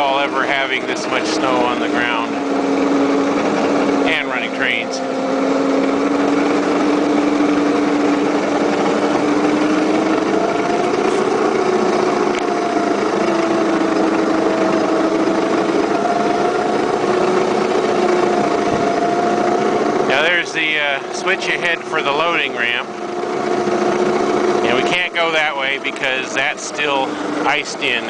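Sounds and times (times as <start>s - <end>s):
model locomotive motor whine: 0.0s - 28.0s.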